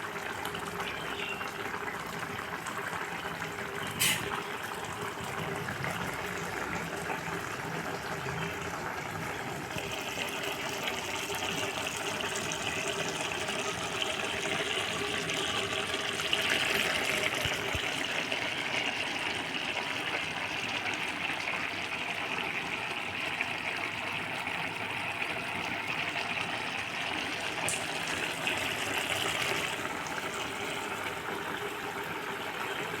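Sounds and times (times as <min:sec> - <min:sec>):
noodles boiling in a pan: 0:00.0 - 0:33.0.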